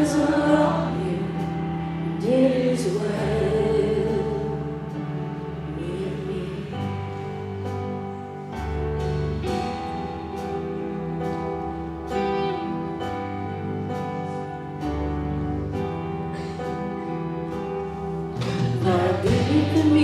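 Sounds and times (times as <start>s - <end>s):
worship band instrumental: 0.0s - 20.0s.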